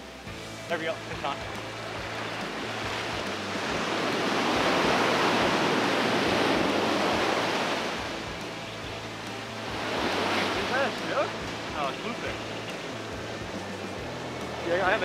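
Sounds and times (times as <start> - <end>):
ocean wave breaking: 0.6 - 15.0.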